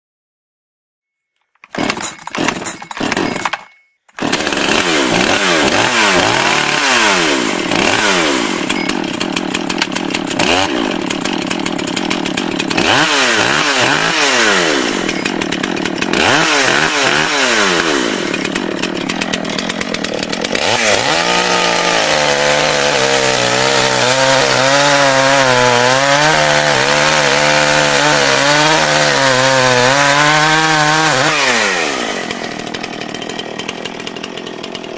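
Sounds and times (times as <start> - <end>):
chainsaw engine revving: 1.6 - 34.9.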